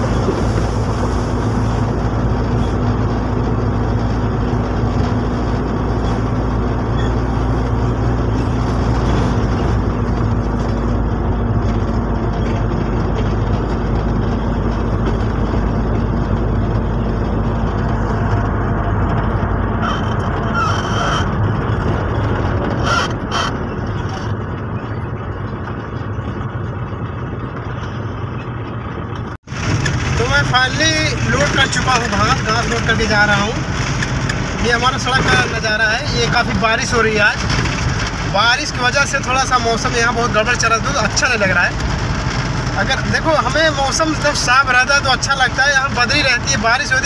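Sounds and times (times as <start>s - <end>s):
truck engine and road noise: 0.0s - 47.0s.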